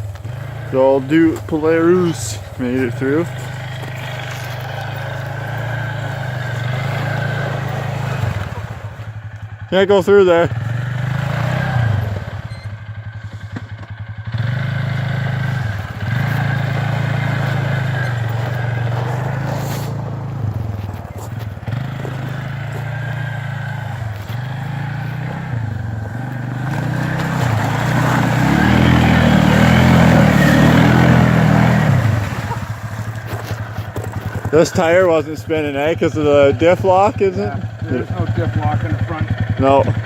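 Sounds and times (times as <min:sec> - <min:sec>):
quad bike engine revving: 0:00.0 - 0:40.0.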